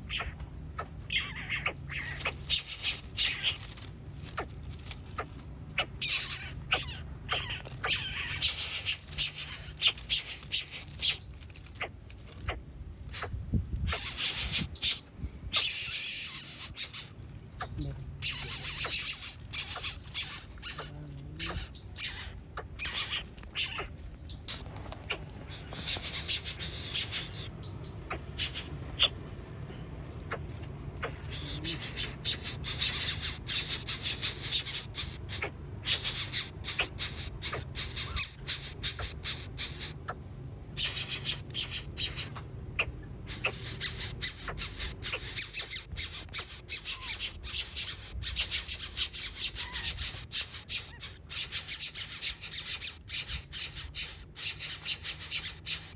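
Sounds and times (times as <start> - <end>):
nestling birds squealing: 0.0 - 29.3, 30.2 - 55.9.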